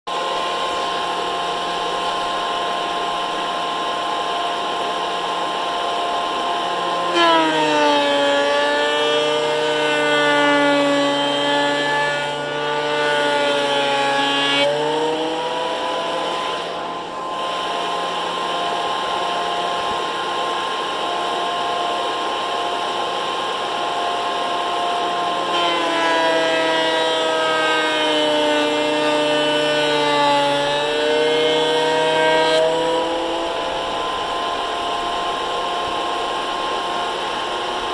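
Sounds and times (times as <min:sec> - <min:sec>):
thickness planer whining: 0:00.1 - 0:37.9.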